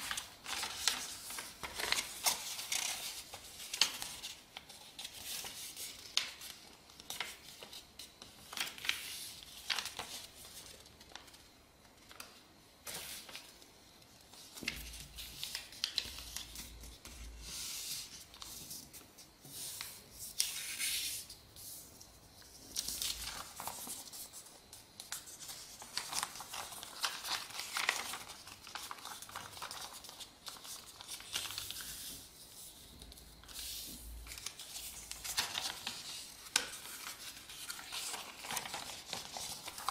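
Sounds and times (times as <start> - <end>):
paper rustling and crinkling: 0.0 - 13.6, 14.2 - 39.9.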